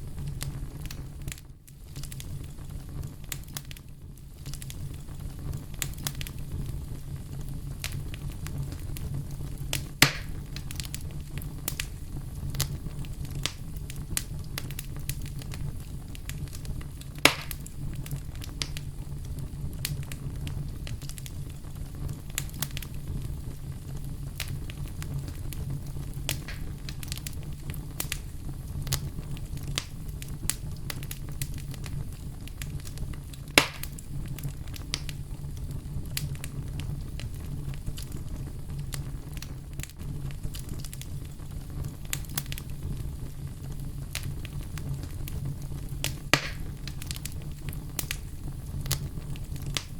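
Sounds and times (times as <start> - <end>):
burning wood popping: 0.0 - 49.9
campfire crackling: 0.0 - 49.9.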